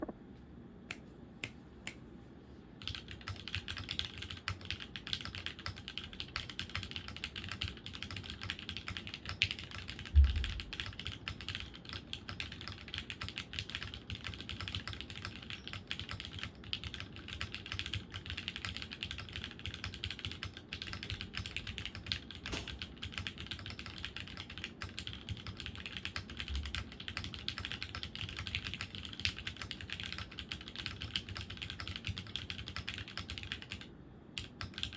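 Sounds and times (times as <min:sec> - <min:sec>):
typing on mechanical keyboard: 0:02.8 - 0:34.9.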